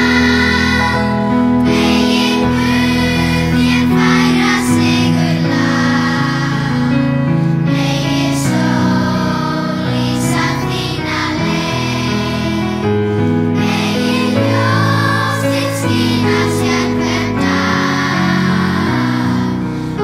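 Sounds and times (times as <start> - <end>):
children's choir singing: 0.0 - 20.0
piano accompaniment: 0.0 - 20.0.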